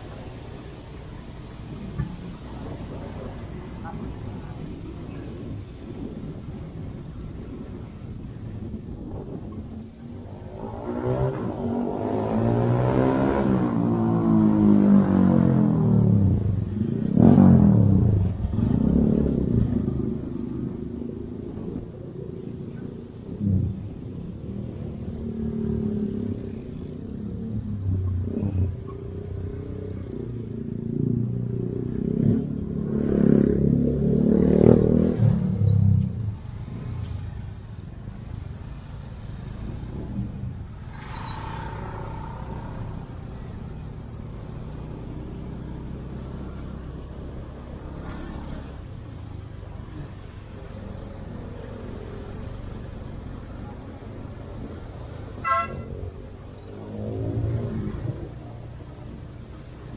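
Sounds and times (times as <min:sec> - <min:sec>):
traffic of cars and motorbikes: 0:00.0 - 0:59.9.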